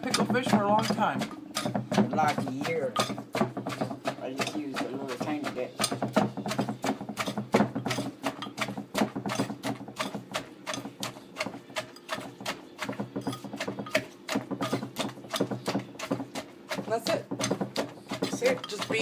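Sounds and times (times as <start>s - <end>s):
wooden pestle pounding in mortar: 0.0s - 19.0s.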